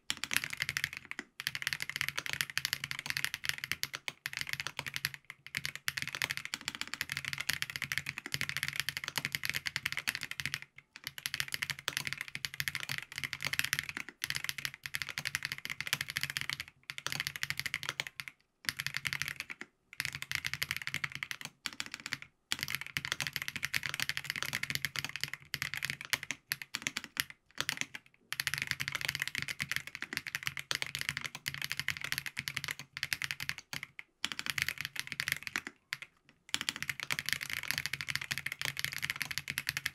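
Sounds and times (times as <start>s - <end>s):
fast typing on mechanical keyboard: 0.1s - 39.9s.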